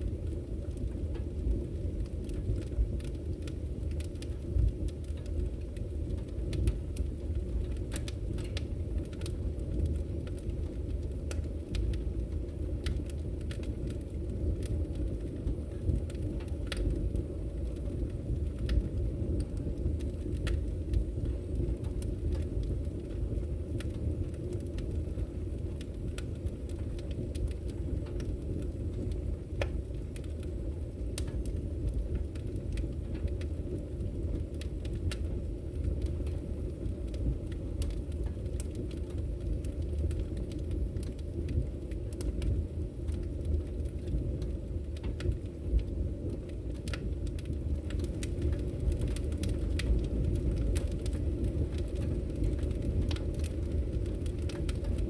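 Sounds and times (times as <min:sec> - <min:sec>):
fire crackles: 0:00.0 - 0:55.0
wood fire burning: 0:00.0 - 0:55.0.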